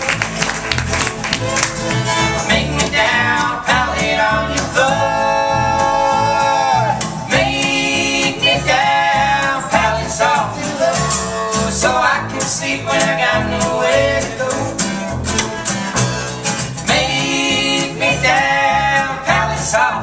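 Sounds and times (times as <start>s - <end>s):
acoustic string band playing: 0.0s - 20.0s
voices singing in harmony: 2.2s - 15.1s, 16.8s - 20.0s.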